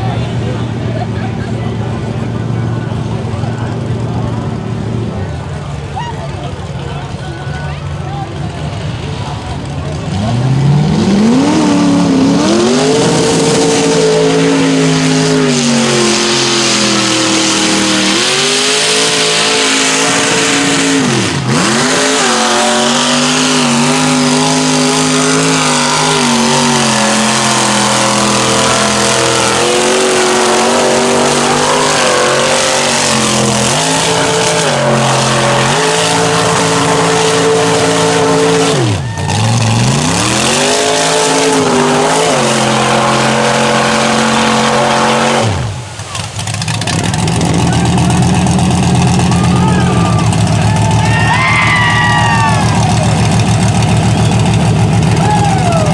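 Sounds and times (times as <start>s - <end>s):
truck engine revving hard: 0.0s - 55.9s.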